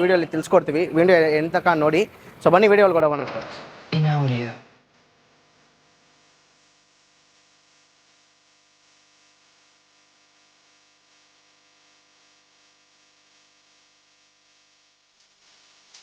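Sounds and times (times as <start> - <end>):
faint hiss: 0.0 - 16.0
low electrical hum: 0.0 - 16.0.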